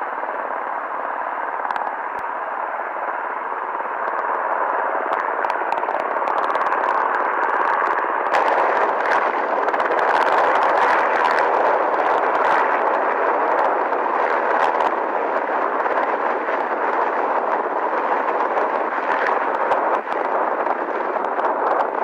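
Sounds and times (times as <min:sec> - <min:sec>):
helicopter rotors rushing: 0:00.0 - 0:22.0.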